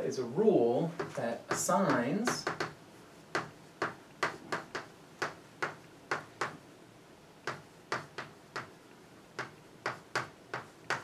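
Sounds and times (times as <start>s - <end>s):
chalk tapping on blackboard: 1.0s - 6.6s, 7.4s - 11.0s.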